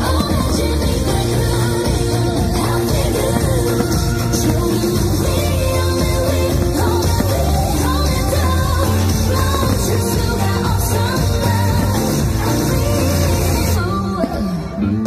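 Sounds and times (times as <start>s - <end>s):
heavy bass: 0.0s - 13.9s
loud music with singing voice: 0.0s - 15.0s.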